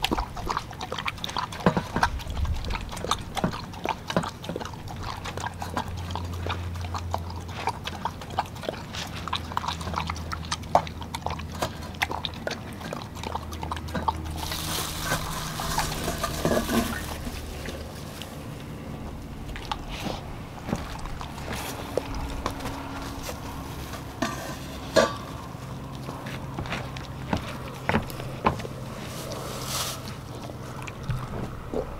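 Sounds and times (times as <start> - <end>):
dog eating from metal bowl: 0.0 - 31.9.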